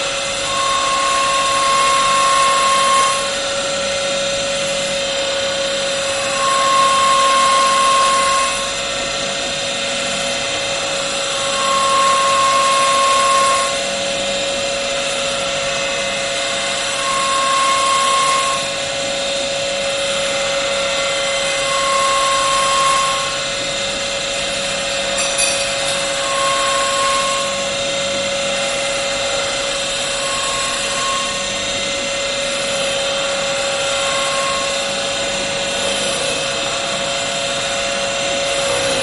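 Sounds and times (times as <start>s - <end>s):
higher louder machine tone: 0.0s - 9.2s, 10.1s - 14.5s, 15.2s - 39.0s
woodworking machine whine: 0.0s - 39.0s.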